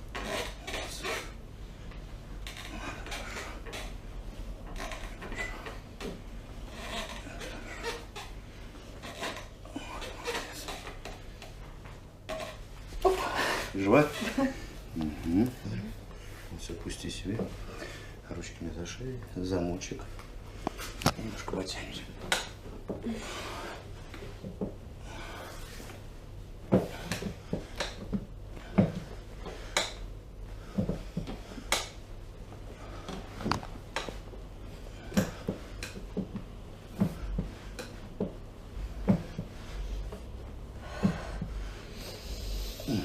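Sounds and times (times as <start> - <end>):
soft breathing: 1.0 - 11.8, 12.8 - 18.6, 22.9 - 36.3, 36.9 - 43.0.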